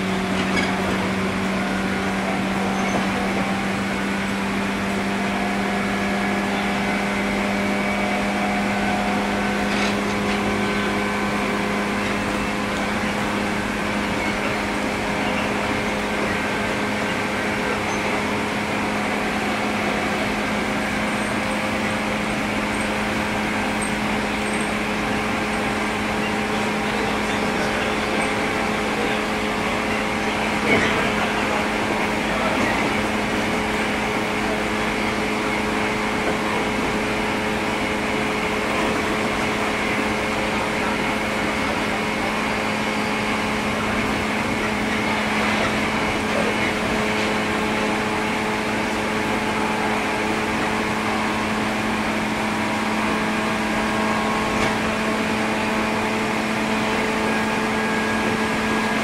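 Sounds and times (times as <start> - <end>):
train low drone: 0.0 - 59.0.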